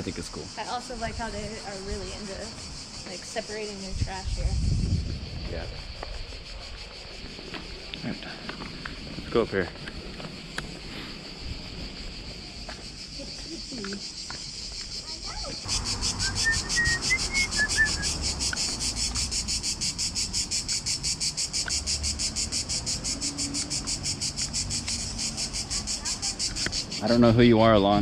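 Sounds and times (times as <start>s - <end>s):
insect chirring: 0.0s - 28.0s.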